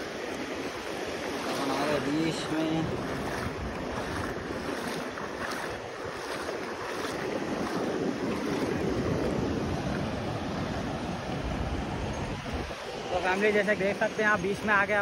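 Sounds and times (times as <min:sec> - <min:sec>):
sea surf washing in: 0:00.0 - 0:15.0
wind buffeting microphone: 0:00.0 - 0:15.0.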